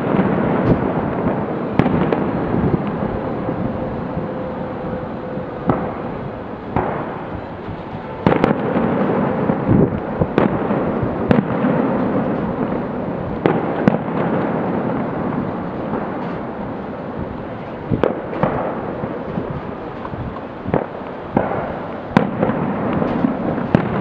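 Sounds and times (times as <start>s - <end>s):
fireworks bangs: 0.0s - 24.0s
fireworks display noise: 0.0s - 24.0s.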